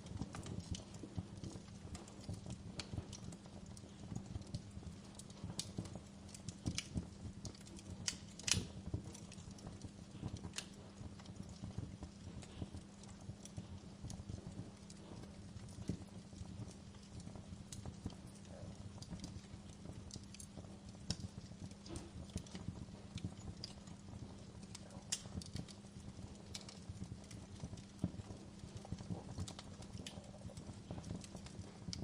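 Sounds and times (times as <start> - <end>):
fire popping and snapping: 0.0 - 32.0
wood fire crackling: 0.0 - 32.0.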